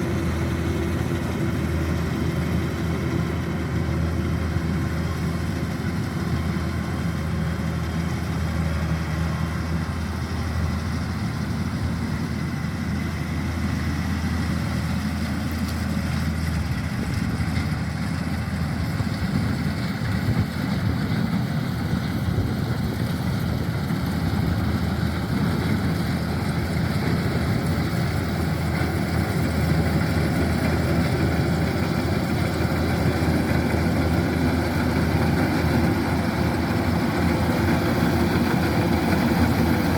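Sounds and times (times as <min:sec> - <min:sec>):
cutting and threshing machinery: 0:00.0 - 0:39.9
diesel engine hum: 0:00.0 - 0:39.9.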